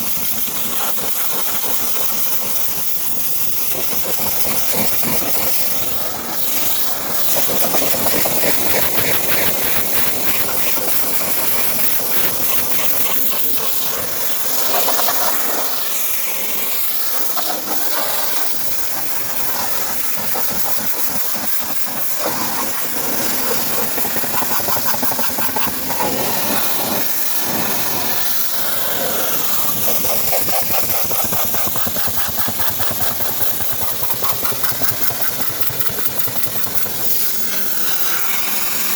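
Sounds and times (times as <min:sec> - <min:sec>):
motor running: 0:00.0 - 0:16.0, 0:16.9 - 0:38.9
cleaning jet hissing: 0:00.0 - 0:38.9.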